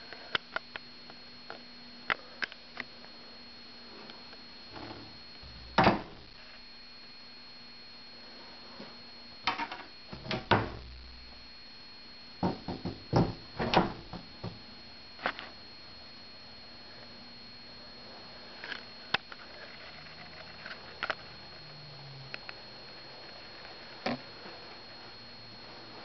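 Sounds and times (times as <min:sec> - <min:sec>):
faint high whine: 0:00.0 - 0:26.0
low hum: 0:00.0 - 0:26.0.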